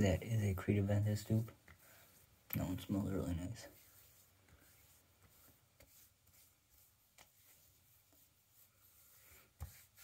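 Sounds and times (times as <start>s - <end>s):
hands rubbing skin: 1.1s - 10.0s.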